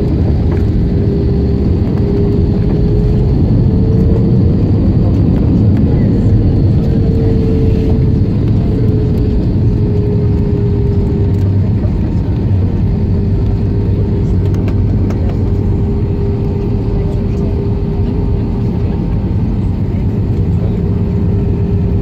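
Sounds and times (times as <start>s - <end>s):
jet cabin rumble on runway: 0.0s - 22.0s.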